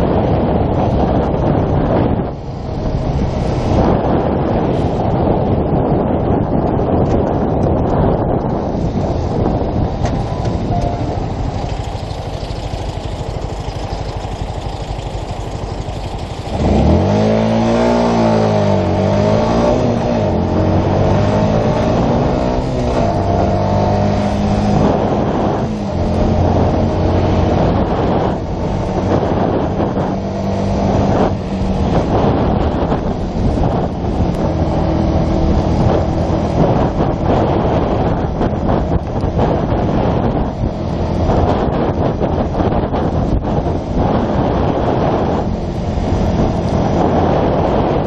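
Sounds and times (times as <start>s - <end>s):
motorcycle engine: 0.0s - 48.0s
rumbling wind noise: 0.0s - 48.0s.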